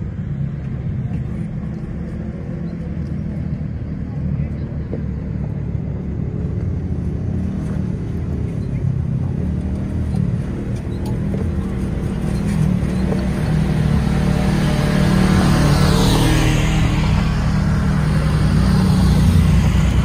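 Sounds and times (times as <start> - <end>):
utility vehicle engines rumbling: 0.0 - 20.0.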